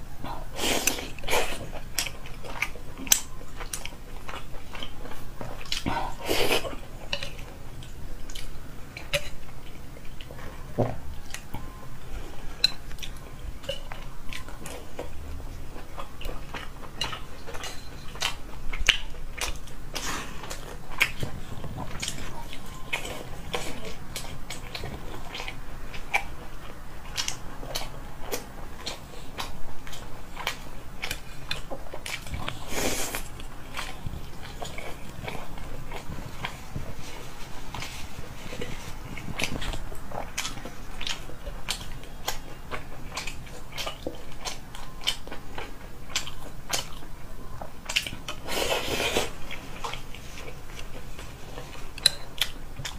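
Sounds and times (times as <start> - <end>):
close-miked chewing and mouth smacks: 0.4 - 11.8, 12.4 - 52.9.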